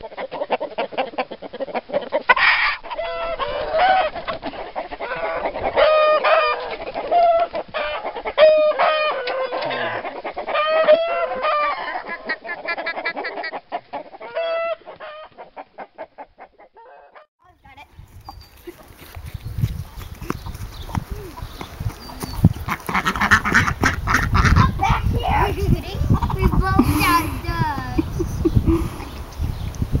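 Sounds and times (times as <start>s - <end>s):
chicken clucking: 0.0s - 17.3s, 18.2s - 29.5s.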